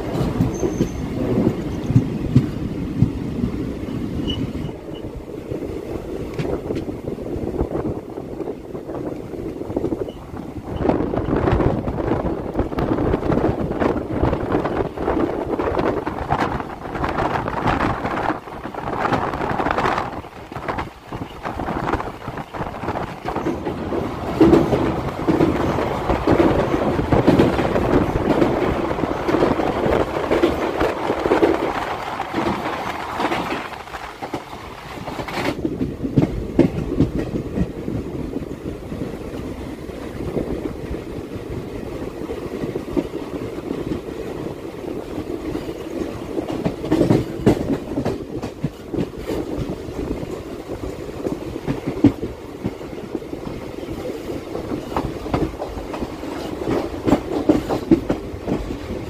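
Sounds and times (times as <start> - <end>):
train wheels clattering over rail joints: 0.0 - 7.1, 9.2 - 59.0.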